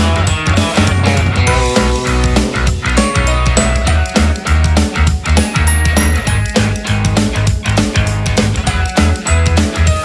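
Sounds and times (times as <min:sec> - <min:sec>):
rock music with drums and bass: 0:00.0 - 0:10.0.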